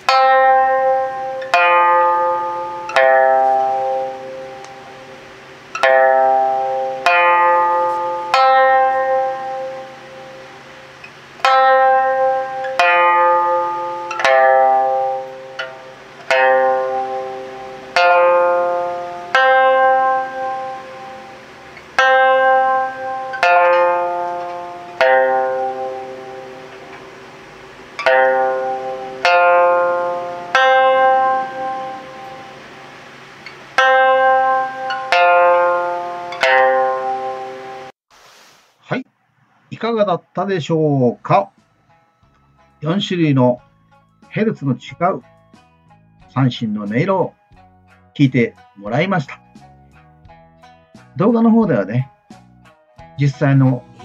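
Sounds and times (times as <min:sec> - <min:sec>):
plucked lute notes: 0:00.0 - 0:37.9, 0:39.9 - 0:54.0.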